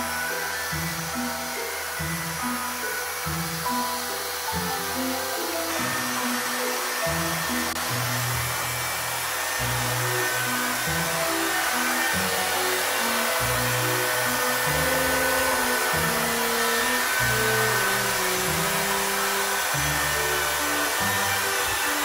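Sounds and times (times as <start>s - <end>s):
music with held bass notes: 0.0s - 22.0s
power tool motor whir: 0.0s - 22.0s.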